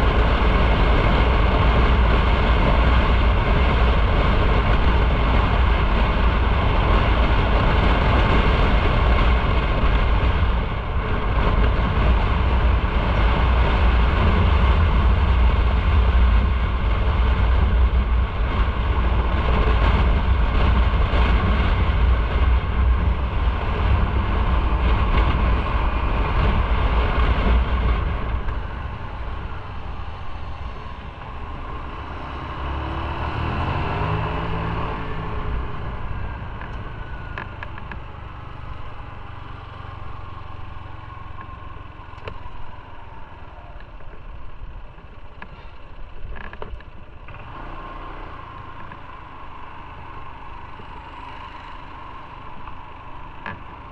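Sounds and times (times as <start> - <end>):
motorcycle engine: 0.0 - 53.9
road noise: 0.0 - 53.9
wind rumble on microphone: 0.0 - 53.9.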